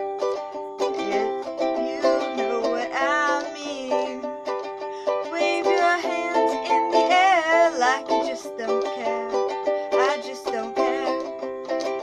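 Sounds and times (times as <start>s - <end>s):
ukulele strumming chords: 0.0s - 12.0s
person singing: 0.8s - 12.0s.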